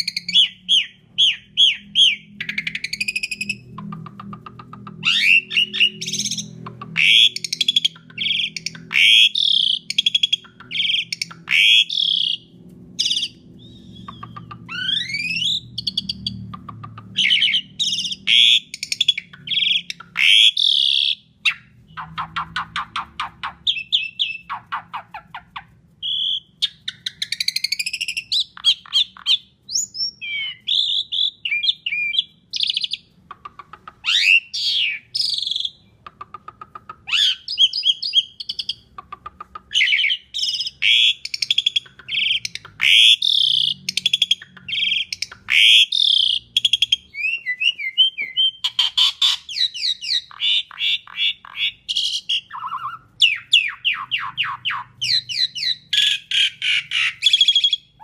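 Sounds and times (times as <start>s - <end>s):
starling song with whistles: 0.0s - 33.1s, 34.0s - 36.0s, 37.0s - 38.9s, 39.7s - 58.0s.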